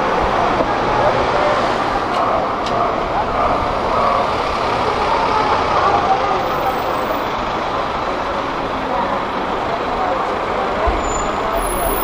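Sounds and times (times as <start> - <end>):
heavy vehicle engine running: 0.0 - 12.0
street traffic: 0.0 - 12.0.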